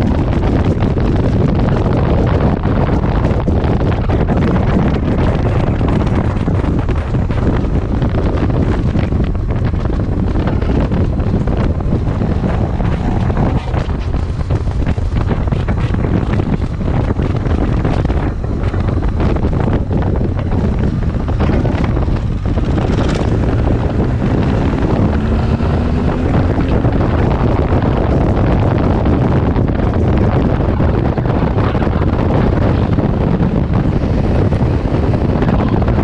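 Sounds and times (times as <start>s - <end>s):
motorcycle engine running: 0.0s - 36.0s
wind buffeting microphone: 0.0s - 36.0s.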